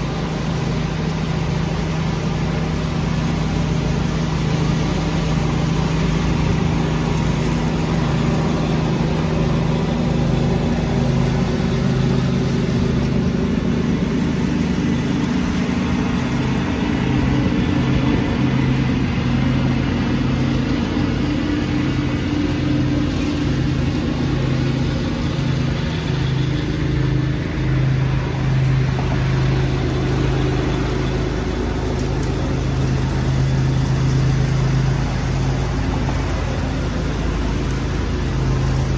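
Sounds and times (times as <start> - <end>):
lawn tractor engine running: 0.0 - 38.9
leaf vacuum rushing: 0.0 - 38.9.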